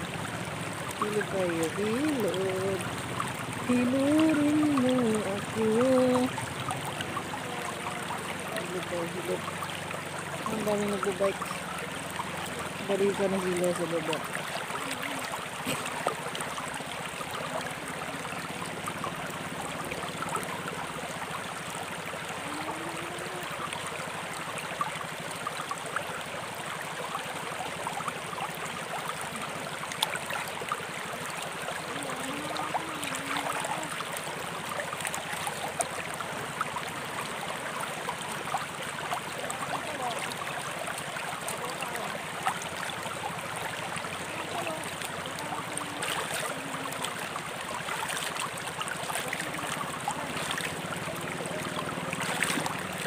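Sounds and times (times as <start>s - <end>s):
river rushing over stones: 0.0s - 53.0s.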